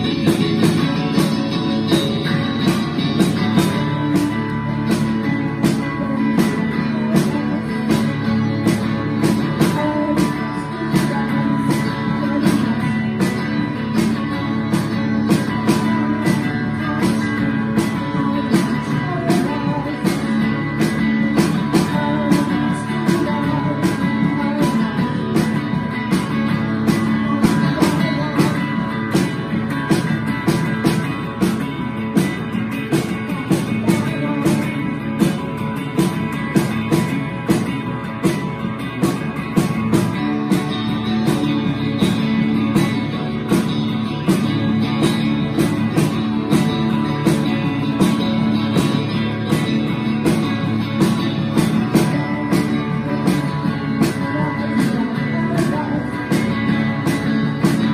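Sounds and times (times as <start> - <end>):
drum kit steady beat: 0.0 - 57.9
guitars: 0.0 - 57.9.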